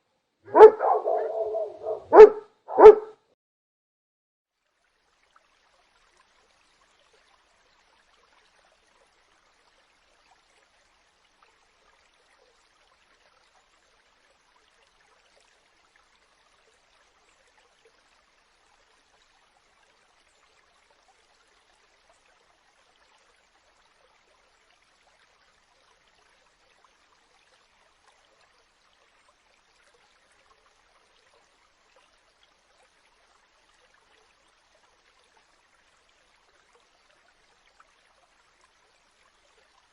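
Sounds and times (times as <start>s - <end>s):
faint steady hiss: 4.6s - 39.9s.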